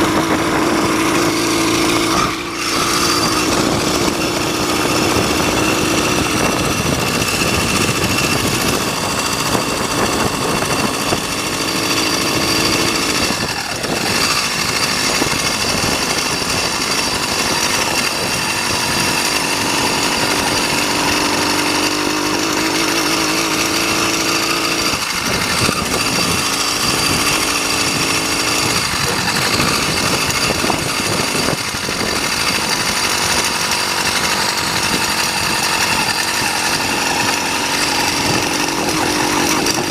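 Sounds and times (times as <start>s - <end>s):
two-stroke engine buzzing: 0.0s - 39.9s.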